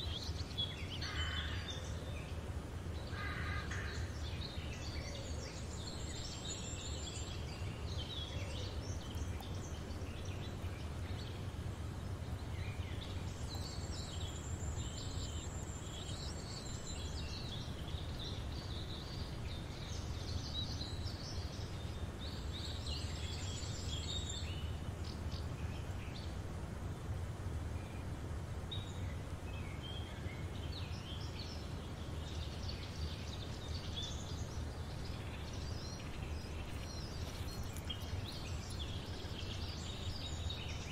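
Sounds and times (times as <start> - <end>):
birds chirping and trilling: 0.0 - 26.4, 28.7 - 40.9.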